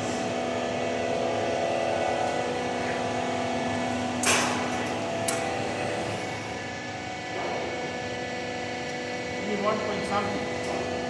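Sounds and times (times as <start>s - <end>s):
roll-forming machine humming: 0.0s - 11.0s.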